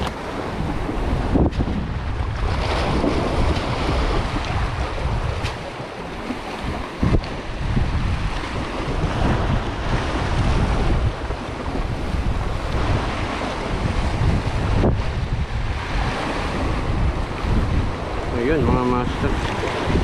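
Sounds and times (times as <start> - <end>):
surf washing: 0.0 - 20.0
wind buffeting microphone: 0.0 - 20.0.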